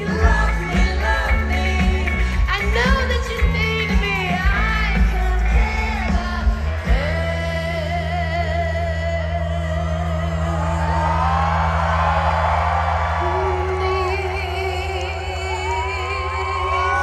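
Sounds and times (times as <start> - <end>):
woman singing: 0.0 - 11.9, 13.2 - 17.0
steady bass: 0.0 - 17.0.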